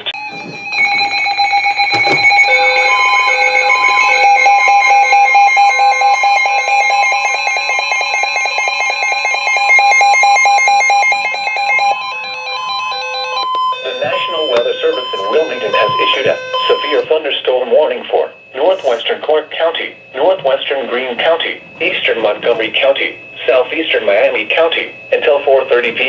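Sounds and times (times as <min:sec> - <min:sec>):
alert alarms beeping: 0:00.0 - 0:26.0
steady warning alarm tone: 0:00.0 - 0:26.0.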